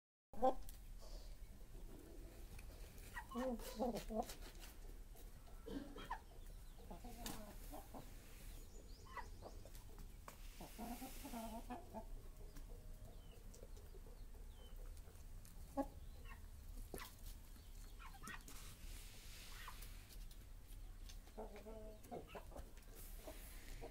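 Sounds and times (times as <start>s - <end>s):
chickens clucking: 0.4s - 23.9s.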